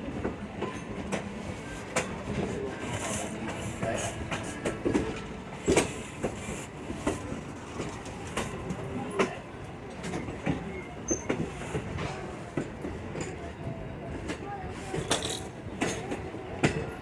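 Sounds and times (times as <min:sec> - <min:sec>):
train car rumbling on track: 0:00.0 - 0:17.0
wheels clacking on rails: 0:00.0 - 0:17.0.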